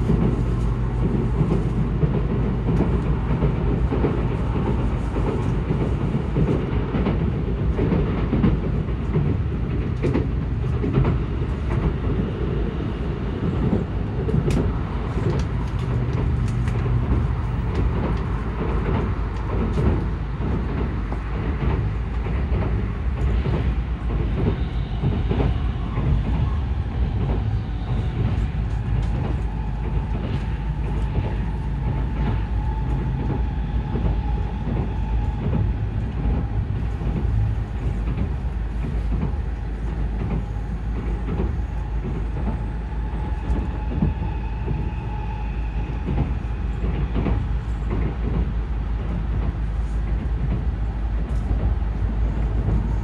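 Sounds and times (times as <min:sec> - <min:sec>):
train cabin rumble: 0:00.0 - 0:53.0.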